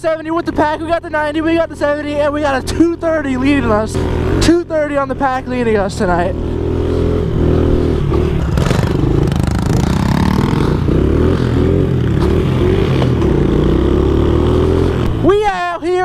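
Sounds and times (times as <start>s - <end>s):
motorbike engine revving: 0.0s - 15.5s.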